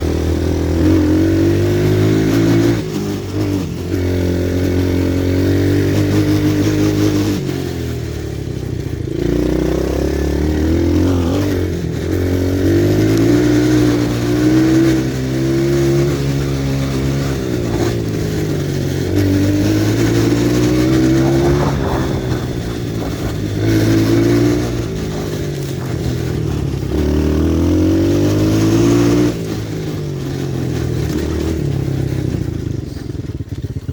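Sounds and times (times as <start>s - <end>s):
small motorbike engine revving: 0.0s - 33.9s.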